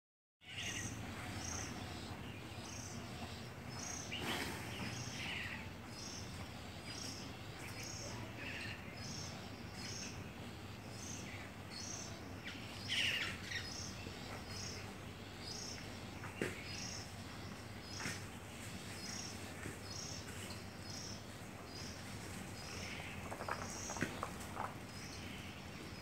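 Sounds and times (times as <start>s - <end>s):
birds chirping: 0.4s - 26.0s.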